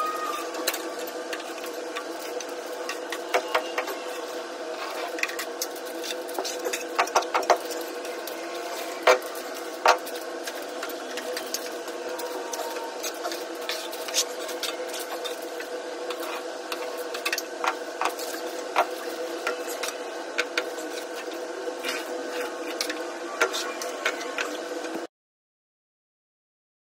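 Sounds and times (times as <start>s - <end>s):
small motor humming: 0.0s - 25.1s.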